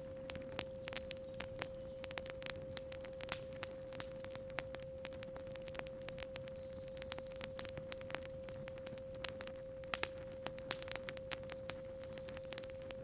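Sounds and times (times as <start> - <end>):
burning wood snapping: 0.0 - 13.0
campfire crackling: 0.0 - 13.0
steady sine tone: 0.0 - 13.0.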